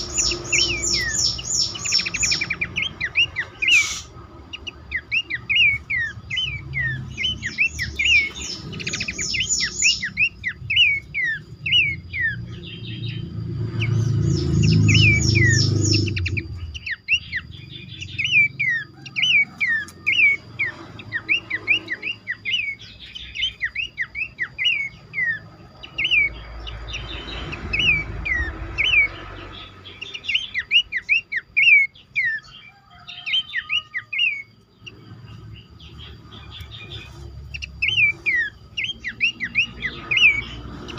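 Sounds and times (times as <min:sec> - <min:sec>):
birds whistling in chorus: 0:00.0 - 0:40.9
fast high bird trills: 0:00.0 - 0:40.9.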